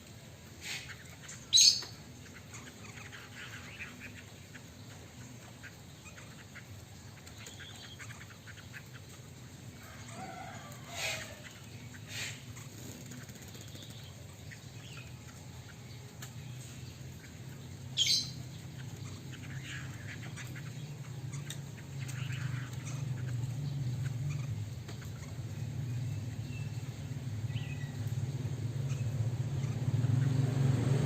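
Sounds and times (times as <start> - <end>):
low steady hum: 0.0 - 31.0
bird chirping: 0.4 - 31.0.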